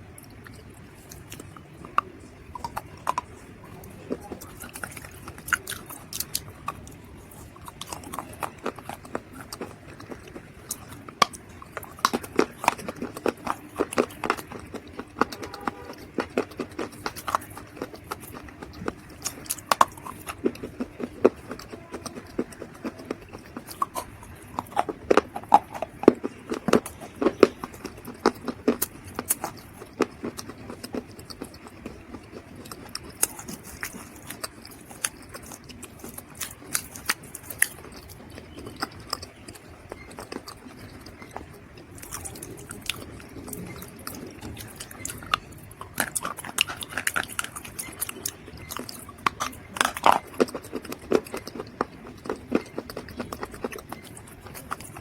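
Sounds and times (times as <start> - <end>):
chewing crunchy dry mud: 0.0 - 55.0.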